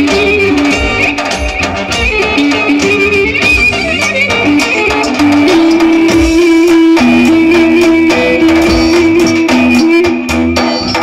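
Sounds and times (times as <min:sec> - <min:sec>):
dance music melody: 0:00.0 - 0:11.0
steady drum beat: 0:00.0 - 0:11.0.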